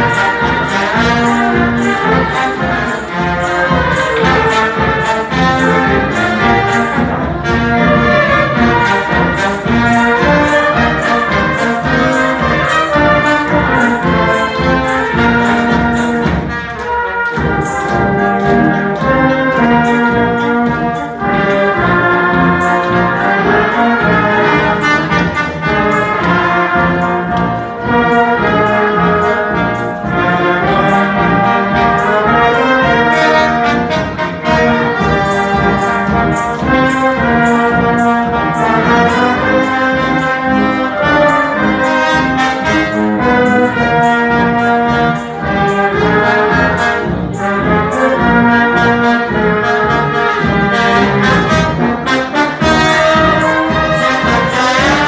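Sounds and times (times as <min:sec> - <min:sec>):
brass band playing dance tune: 0:00.0 - 0:55.0.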